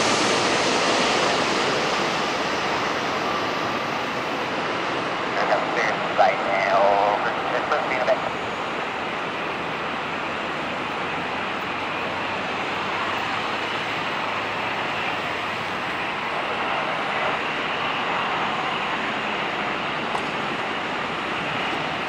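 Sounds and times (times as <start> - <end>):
jet airliner landing: 0.0 - 22.0.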